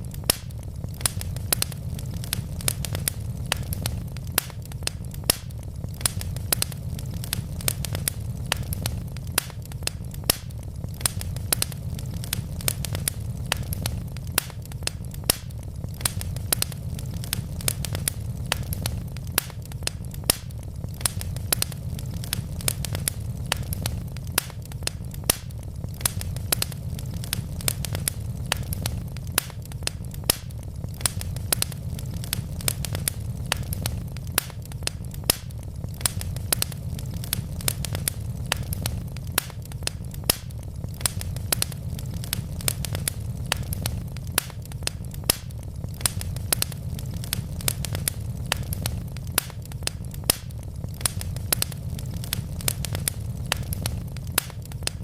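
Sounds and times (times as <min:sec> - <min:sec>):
burning logs popping and snapping: 0:00.0 - 0:55.0
low rumble of flames: 0:00.0 - 0:55.0.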